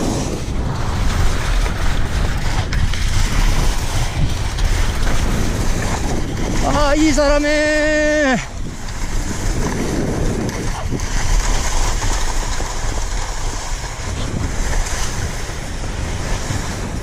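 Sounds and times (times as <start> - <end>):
skis sliding over snow: 0.0 - 17.0
wind buffeting microphone: 0.0 - 17.0.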